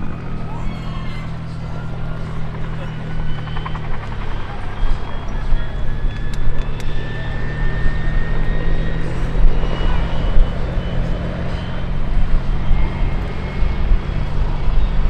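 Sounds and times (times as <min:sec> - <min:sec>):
helicopter flying past: 0:00.0 - 0:15.0
high turbine whine: 0:00.0 - 0:15.0.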